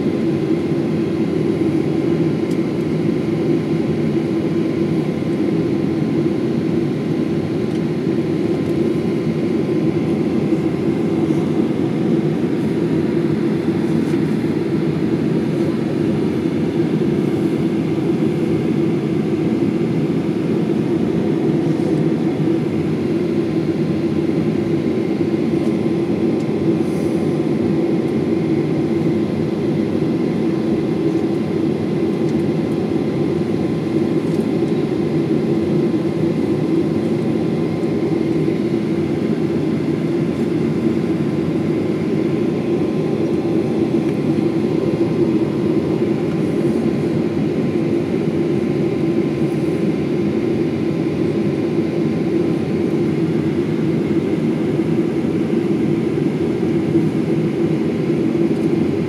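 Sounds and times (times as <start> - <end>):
constant low hum: 0.0 - 59.0
jet engines rushing in cabin: 0.0 - 59.0.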